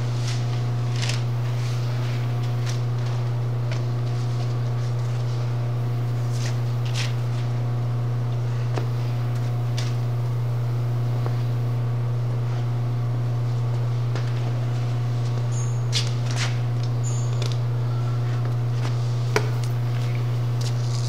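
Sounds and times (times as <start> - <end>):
ventilation fans humming: 0.0 - 21.0.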